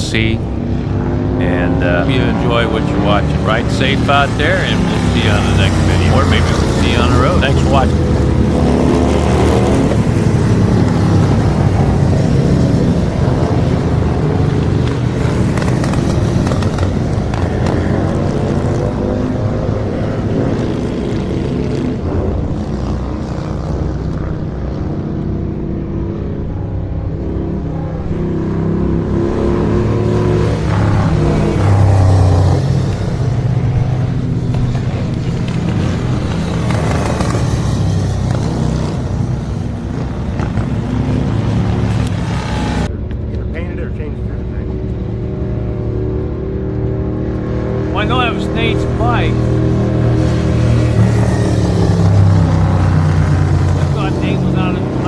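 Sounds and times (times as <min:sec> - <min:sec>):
racing motorcycles passing: 0:00.0 - 0:55.0.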